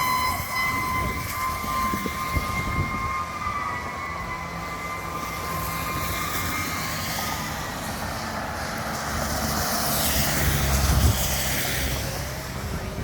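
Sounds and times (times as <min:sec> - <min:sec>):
fire engine siren: 0:00.0 - 0:13.0.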